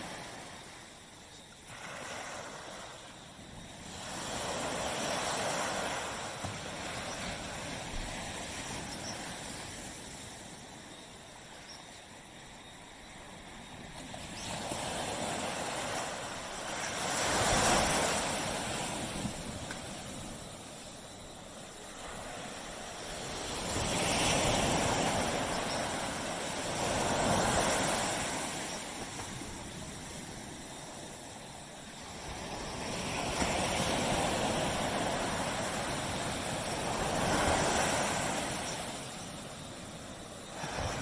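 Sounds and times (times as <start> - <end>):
waves breaking and washing in: 0.0 - 41.0.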